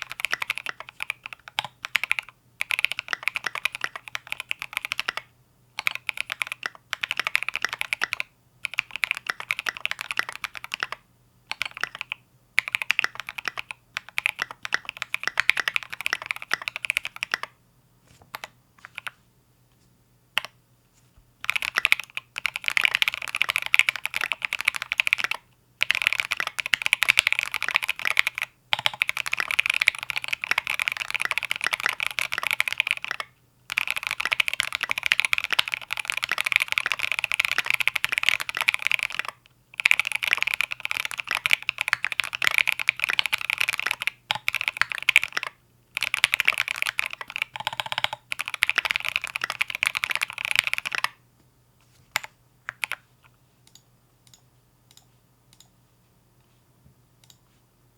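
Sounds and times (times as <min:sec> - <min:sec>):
fast mechanical keyboard typing: 0:00.0 - 0:17.5, 0:18.3 - 0:19.1, 0:21.4 - 0:51.2, 0:52.1 - 0:53.0.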